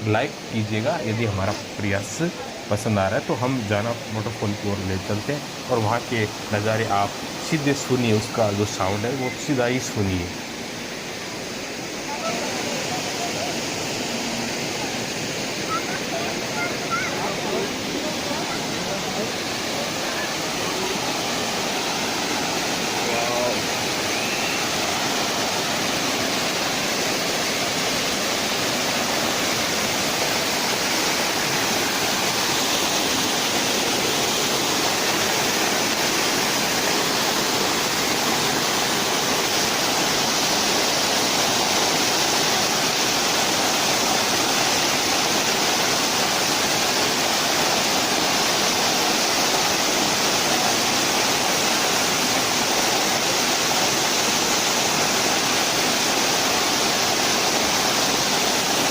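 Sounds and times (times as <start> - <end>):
waterfall rushing: 0.0 - 58.9.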